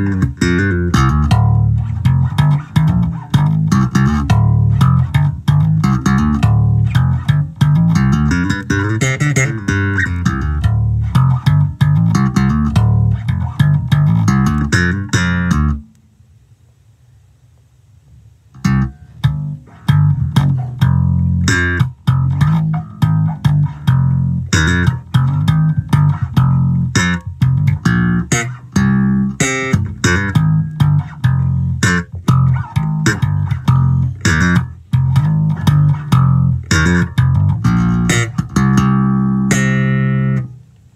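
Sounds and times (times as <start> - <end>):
electric bass plucked notes: 0.0 - 16.0, 18.5 - 40.9.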